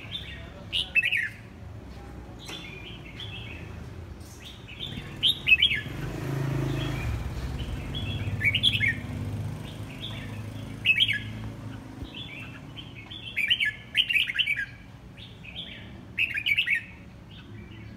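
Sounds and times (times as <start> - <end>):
bird singing warbled phrases: 0.0 - 1.6, 2.4 - 17.9.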